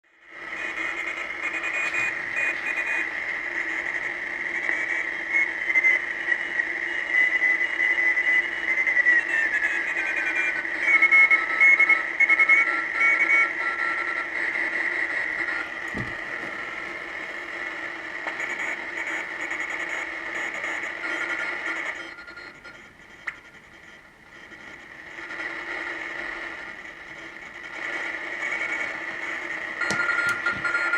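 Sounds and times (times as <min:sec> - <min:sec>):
radio band noise hiss: 0:00.1 - 0:30.9
sliding radio whistles: 0:00.3 - 0:30.9.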